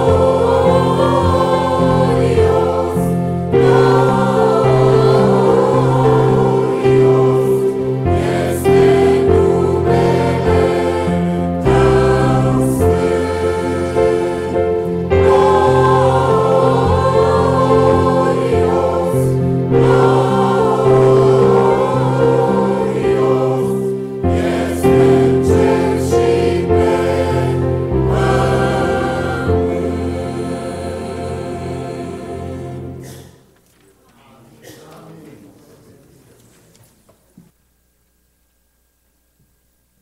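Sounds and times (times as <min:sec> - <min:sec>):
electronic keyboard: 0:00.0 - 0:33.0
choir singing a hymn: 0:00.0 - 0:33.5.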